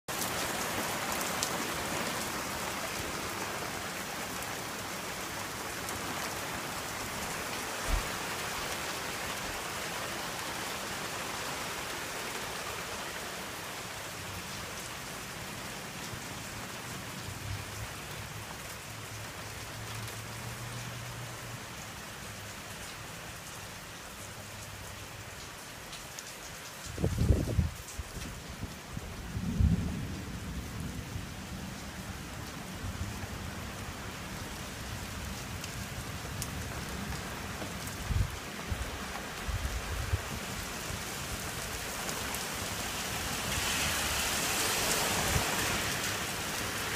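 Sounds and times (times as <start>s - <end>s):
heavy rain falling: 0.1s - 46.9s.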